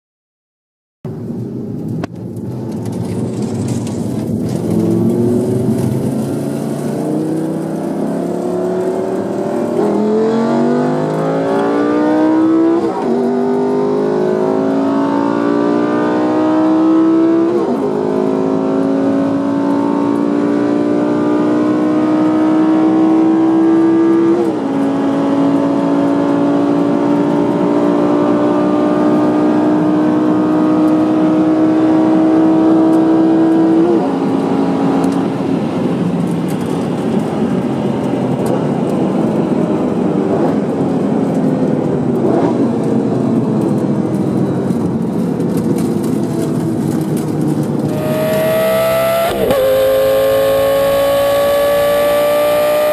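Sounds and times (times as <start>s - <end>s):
car engine accelerating: 2.3s - 41.0s, 42.0s - 52.9s.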